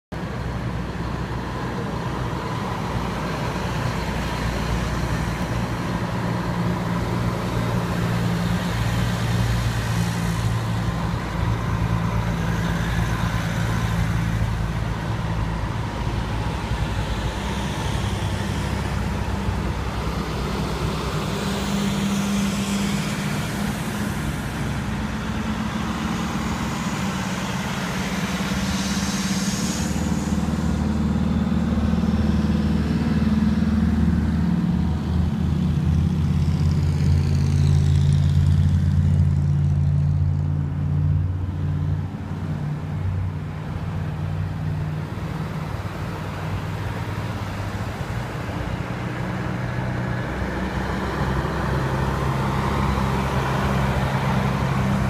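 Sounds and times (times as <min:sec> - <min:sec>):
fire truck diesel engines droning: 0:00.1 - 0:55.0.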